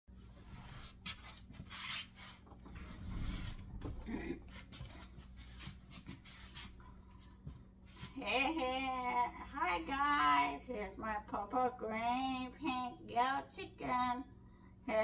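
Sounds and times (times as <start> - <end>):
low steady hum: 0.1 - 15.0.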